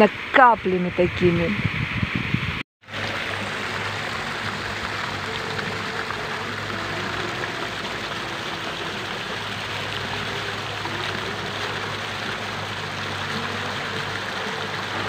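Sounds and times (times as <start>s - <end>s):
fountain water splashing into basin: 2.8s - 15.0s.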